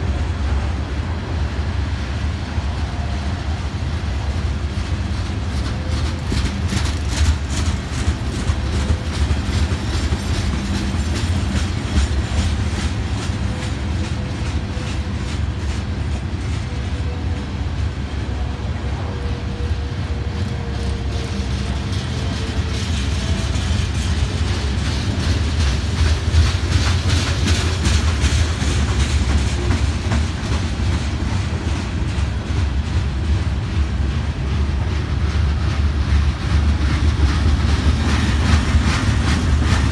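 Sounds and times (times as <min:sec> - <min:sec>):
steel wheels rumbling on rail: 0:00.0 - 0:39.9
wheels clicking over rail joints: 0:04.6 - 0:17.2, 0:19.2 - 0:39.9.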